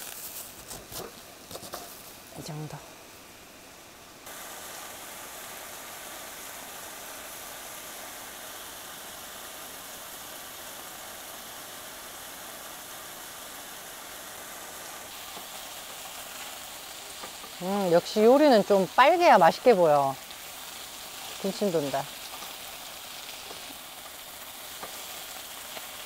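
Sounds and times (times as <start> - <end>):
pork sizzling in a frying pan: 0.0 - 26.0.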